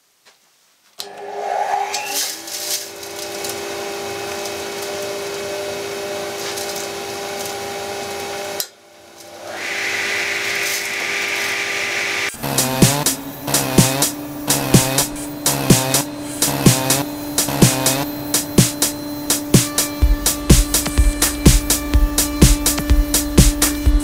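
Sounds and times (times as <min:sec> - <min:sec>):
power tool motor whining: 0:01.0 - 0:08.6, 0:09.2 - 0:23.3.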